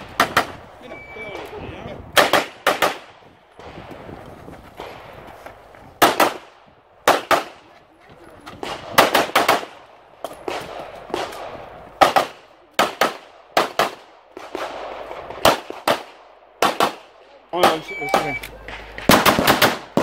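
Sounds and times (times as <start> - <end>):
pistol shots in pairs: 0.0 - 4.0, 6.0 - 7.7, 8.5 - 20.0.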